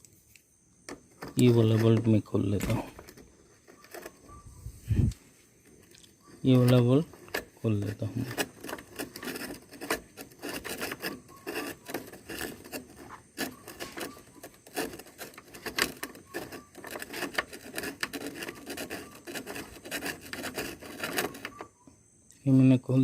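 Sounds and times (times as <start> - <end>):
hand tool clicking and scraping bolt: 0.9 - 4.3, 6.3 - 21.7.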